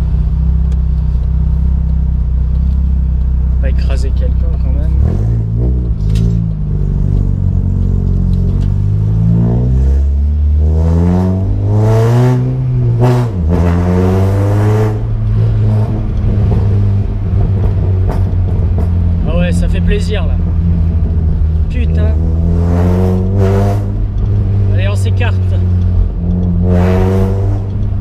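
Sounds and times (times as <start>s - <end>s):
car engine revving while driving: 1.4s - 28.0s.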